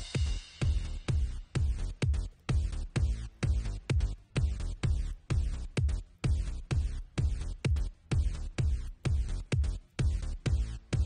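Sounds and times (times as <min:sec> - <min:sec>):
electronic dance music: 0:00.0 - 0:11.0
kick drum beat: 0:00.0 - 0:11.0.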